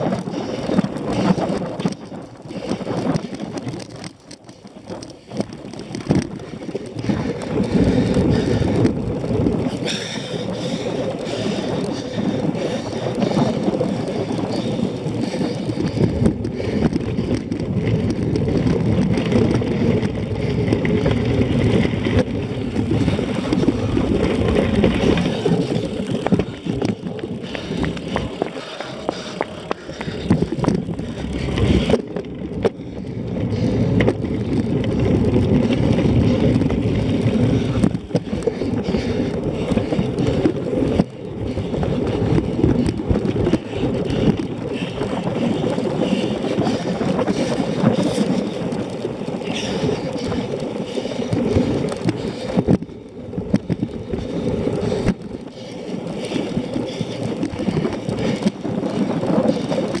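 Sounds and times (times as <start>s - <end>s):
bike rattling over bumpy grass: 0.0s - 60.0s.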